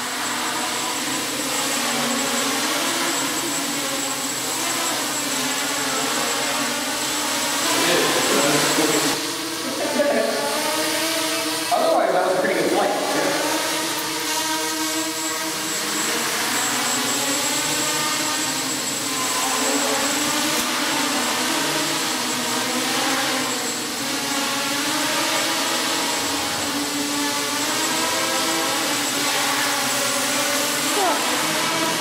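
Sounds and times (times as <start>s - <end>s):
quadrotor drones buzzing: 0.0s - 32.0s.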